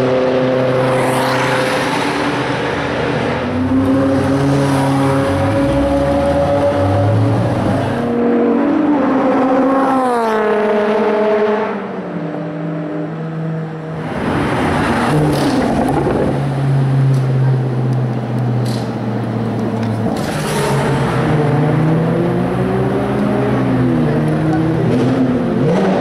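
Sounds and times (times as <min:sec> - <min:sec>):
sports car engines: 0:00.0 - 0:26.0.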